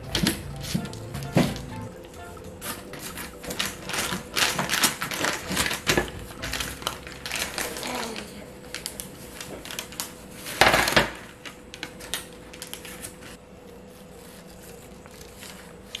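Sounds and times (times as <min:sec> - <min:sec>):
parchment paper crinkling: 0:00.0 - 0:16.0.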